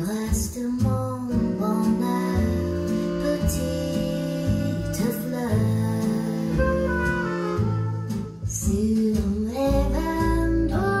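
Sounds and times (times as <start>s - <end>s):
song through loudspeakers: 0.0s - 11.0s.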